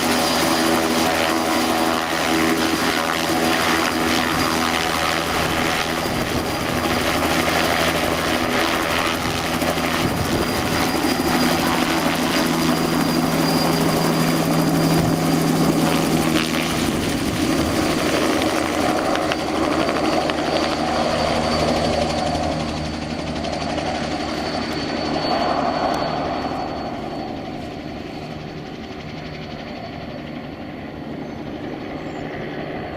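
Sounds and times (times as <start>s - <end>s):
helicopter rotor noise: 0.0s - 32.9s
high turbine whine: 0.0s - 32.9s.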